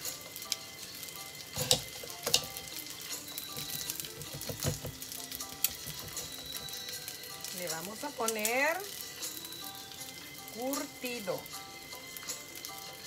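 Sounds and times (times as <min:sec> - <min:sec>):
faint background music: 0:00.0 - 0:13.0
food sizzling in oil: 0:00.0 - 0:13.0.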